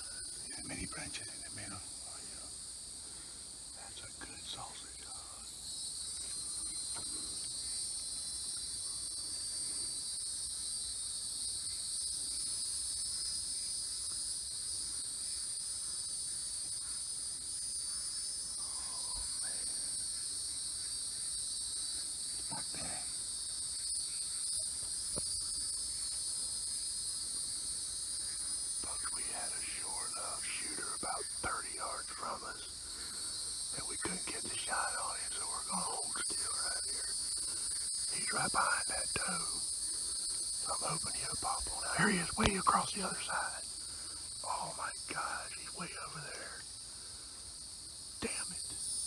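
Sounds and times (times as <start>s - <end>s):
insect chorus shrilling: 0.0s - 49.0s.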